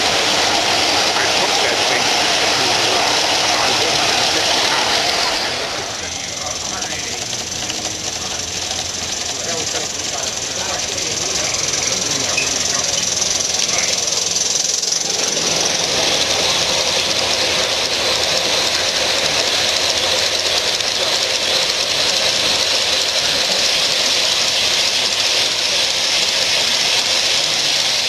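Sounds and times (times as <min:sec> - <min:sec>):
model steam train hissing: 0:00.0 - 0:28.0.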